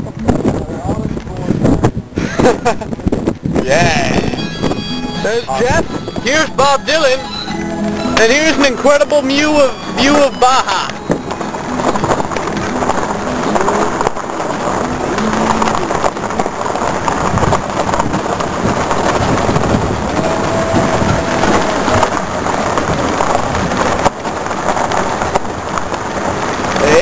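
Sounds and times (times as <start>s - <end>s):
vehicle road noise on dirt road: 0.0s - 27.0s.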